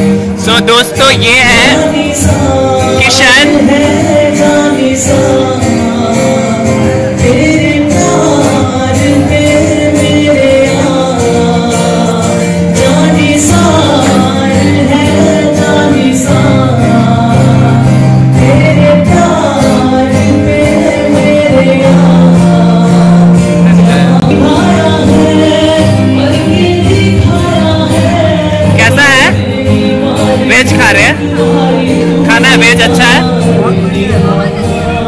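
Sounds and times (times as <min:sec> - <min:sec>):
acoustic guitar strumming: 0:00.0 - 0:35.0
man singing: 0:00.0 - 0:35.0.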